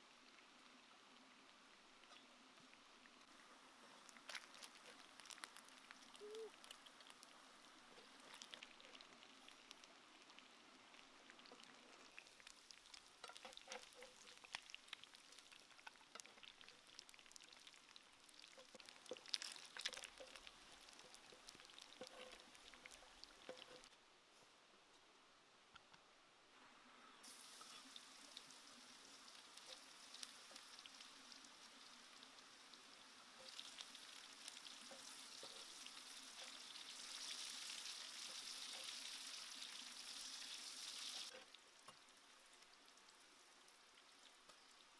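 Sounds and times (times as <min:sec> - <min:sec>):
food sizzling in a pot: 0:04.0 - 0:10.4, 0:11.3 - 0:23.9, 0:27.2 - 0:44.9.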